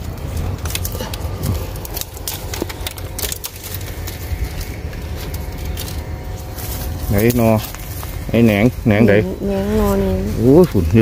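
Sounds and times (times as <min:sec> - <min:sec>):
low rumble: 0:00.0 - 0:11.0
twigs crackling and snapping: 0:00.0 - 0:11.0.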